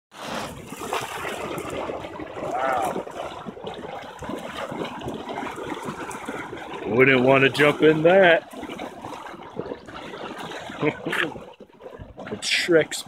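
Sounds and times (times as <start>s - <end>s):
mud bubbling and popping: 0.1s - 13.0s.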